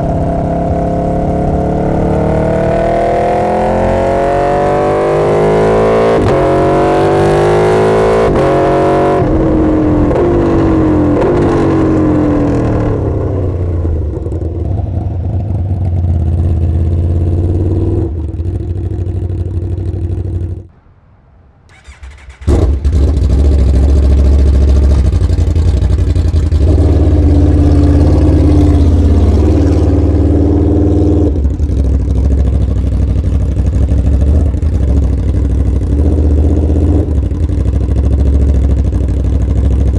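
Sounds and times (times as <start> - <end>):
motorcycle engine accelerating: 0.0 - 20.7, 21.7 - 39.9.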